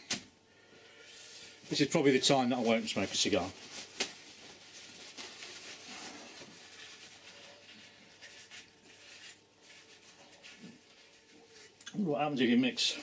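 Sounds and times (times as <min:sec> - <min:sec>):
paper towel rubbing on metal: 0:01.7 - 0:12.8.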